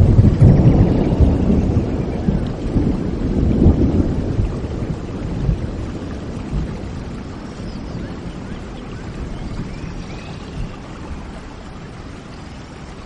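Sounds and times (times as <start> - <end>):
thunder rumbling: 0.0 - 12.4
steady rain: 0.0 - 13.0.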